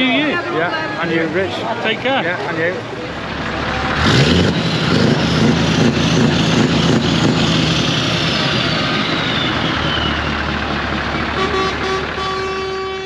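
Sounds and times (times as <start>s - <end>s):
diesel lorry engine running: 0.0s - 13.0s.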